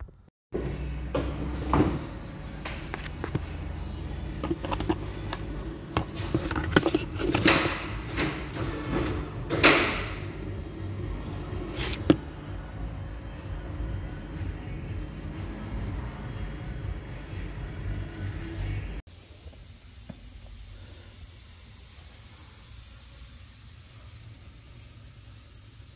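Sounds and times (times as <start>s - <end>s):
steady shop hum: 0.0s - 25.9s.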